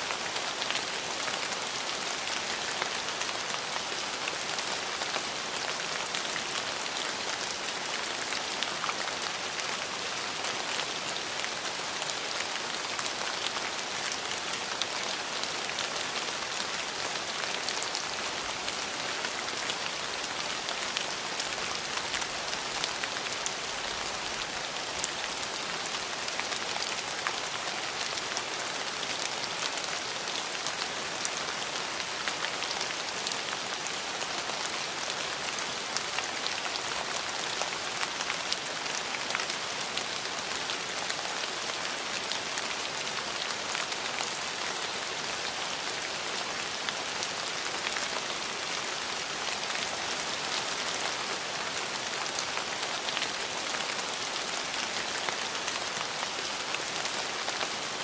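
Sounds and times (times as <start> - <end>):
rain on a hard surface: 0.0 - 58.0.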